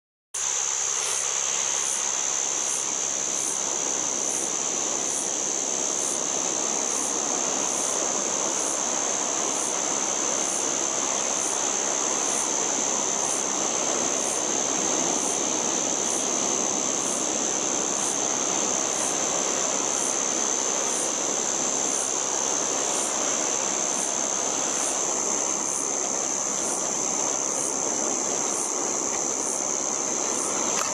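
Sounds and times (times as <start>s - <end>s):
cicada buzzing: 0.4s - 30.9s.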